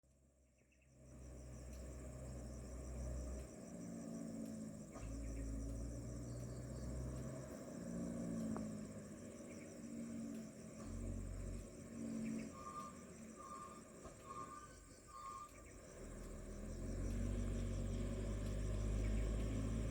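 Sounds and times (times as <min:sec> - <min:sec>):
insects chirring: 0:00.6 - 0:19.9
diesel truck engine drone: 0:00.8 - 0:19.9.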